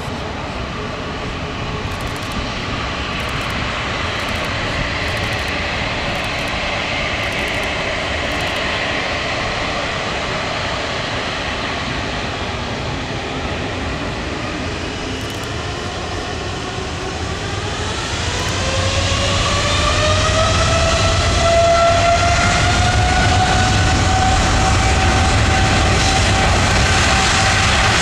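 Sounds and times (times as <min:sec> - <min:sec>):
jet engines rumbling with whine: 0:00.0 - 0:28.0.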